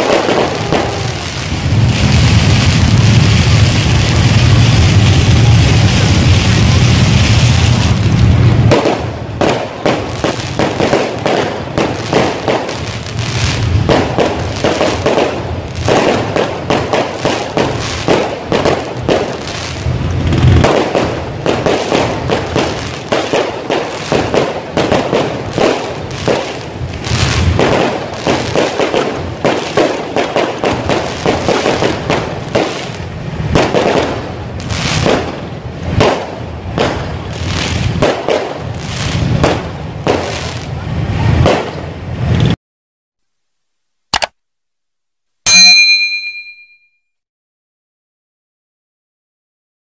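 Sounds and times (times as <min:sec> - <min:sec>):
fireworks bangs and crackling: 0:00.0 - 0:42.6.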